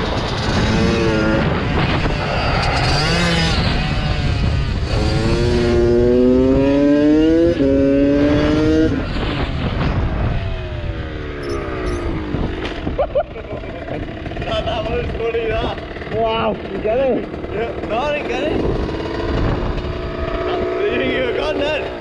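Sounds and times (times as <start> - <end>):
wind on microphone: 0.0 - 16.3, 18.4 - 20.8
dirt bike engine accelerating: 0.0 - 22.0.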